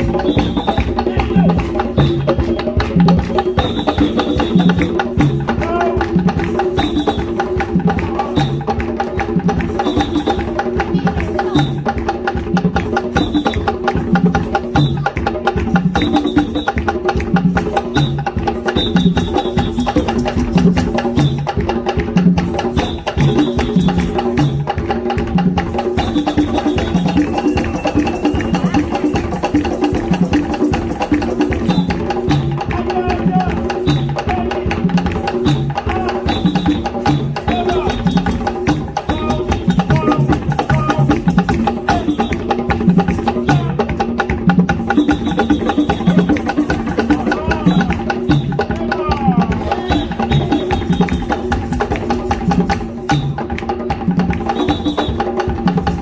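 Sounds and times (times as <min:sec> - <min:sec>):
music with busy percussion: 0:00.0 - 0:56.0.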